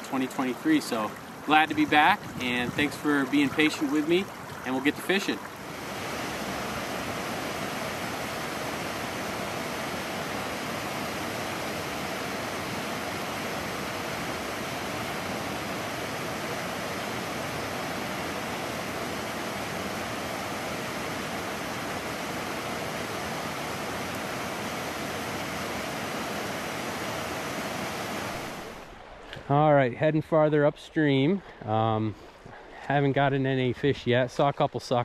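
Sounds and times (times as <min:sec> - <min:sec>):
stream running water: 0:00.0 - 0:35.0.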